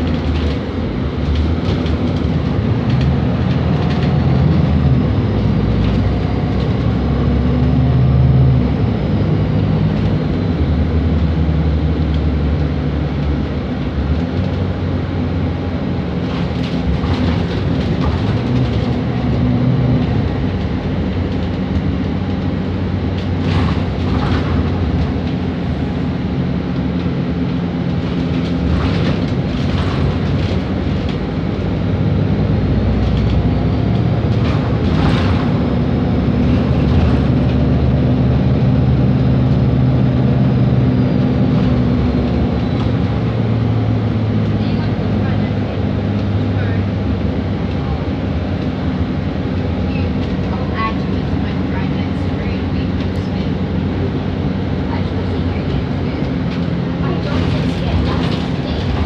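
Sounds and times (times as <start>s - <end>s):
bus cabin rattling: 0.0s - 59.0s
bus diesel engine running: 0.0s - 59.0s.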